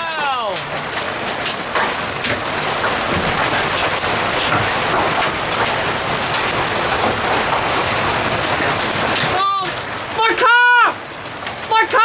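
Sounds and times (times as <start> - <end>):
heavy hail clattering: 0.0 - 12.0.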